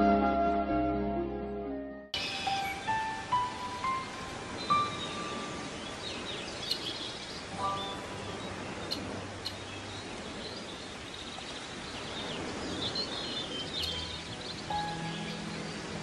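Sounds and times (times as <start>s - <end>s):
birds chirping: 2.2s - 16.0s
steady outdoor hiss: 2.2s - 16.0s.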